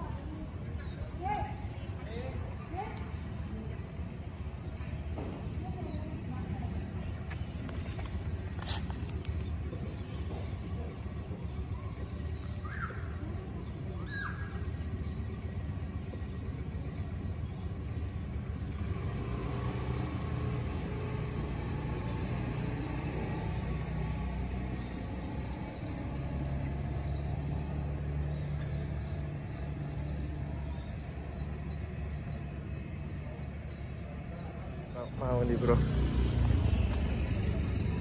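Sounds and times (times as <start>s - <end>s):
motor vehicle rumbling: 0.0s - 38.0s.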